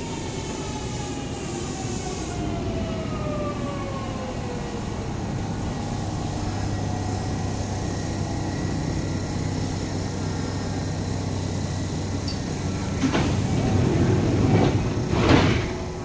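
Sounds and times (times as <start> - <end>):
electric train hum: 0.0 - 16.0
train motor whine: 0.0 - 16.0.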